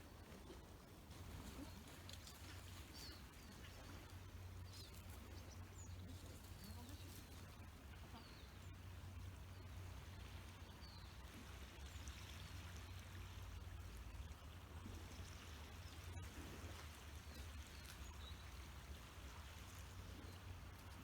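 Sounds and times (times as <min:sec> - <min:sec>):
faint outdoor noise: 0:00.0 - 0:21.0.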